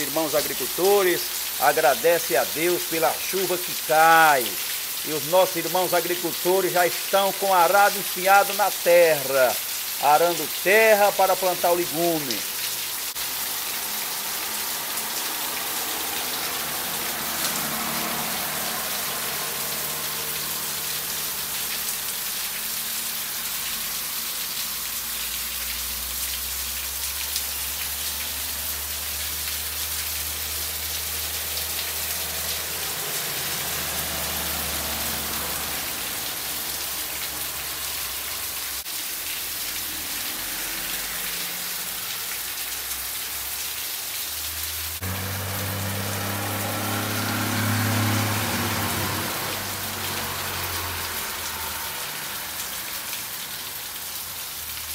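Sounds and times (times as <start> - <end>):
heavy rain on pavement: 0.0 - 54.9.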